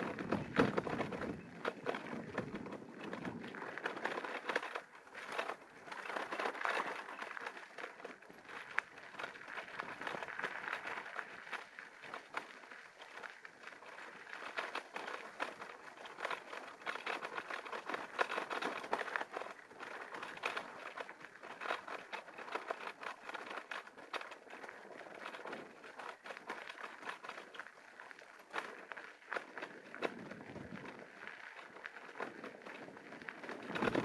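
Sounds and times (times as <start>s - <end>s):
bicycle tyres crunching on gravel: 0.0s - 34.0s.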